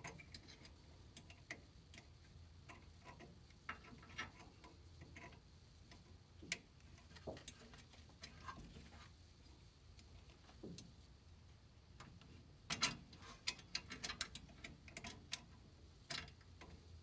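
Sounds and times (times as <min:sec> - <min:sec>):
small metallic clicks: 0:00.0 - 0:08.9, 0:12.0 - 0:17.0.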